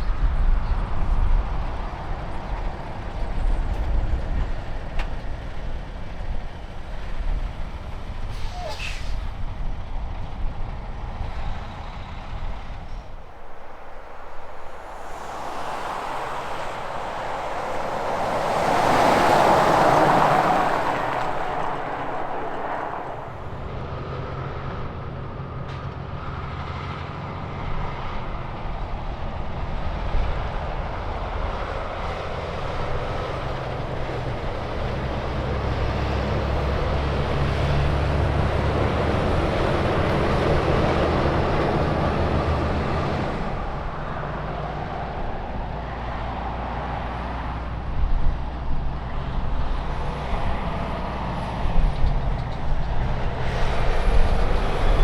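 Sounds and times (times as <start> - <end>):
truck diesel engine droning: 0.0 - 55.0
vehicle passing with tyre noise: 0.0 - 55.0.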